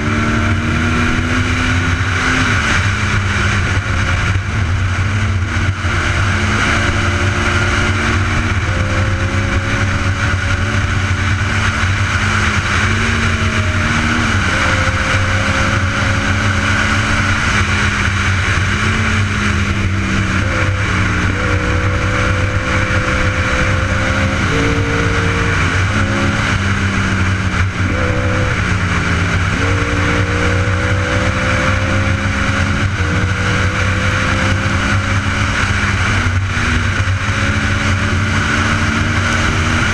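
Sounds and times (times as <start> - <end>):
motorcycle engine shifting gears: 0.0 - 39.9
wind rush: 0.0 - 39.9.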